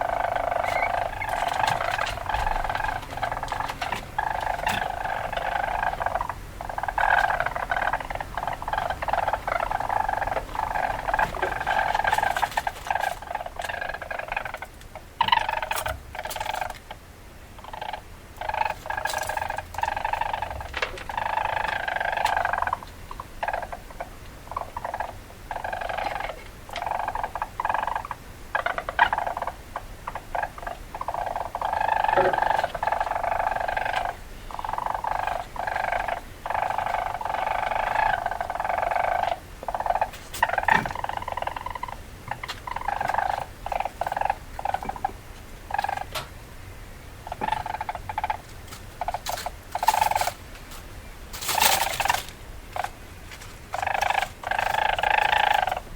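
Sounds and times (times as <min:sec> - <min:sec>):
weasel chattering: 0:00.0 - 0:17.0, 0:17.6 - 0:46.2, 0:47.2 - 0:50.4, 0:51.4 - 0:53.0, 0:53.7 - 0:55.9.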